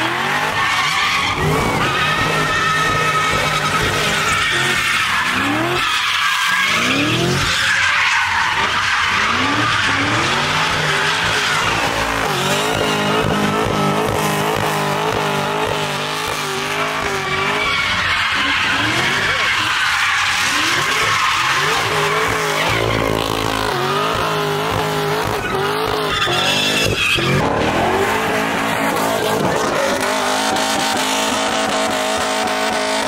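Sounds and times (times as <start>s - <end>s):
car engine revving: 0.0s - 33.0s
tyres screeching: 0.0s - 33.0s.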